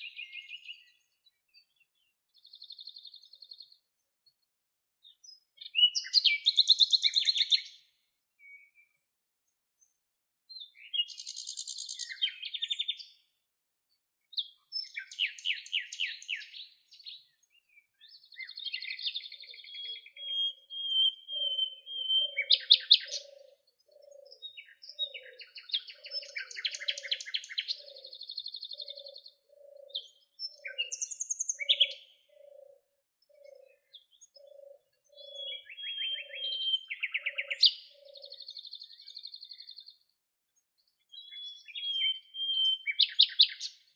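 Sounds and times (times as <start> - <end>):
birds singing trills and chirps: 0.0 - 43.9.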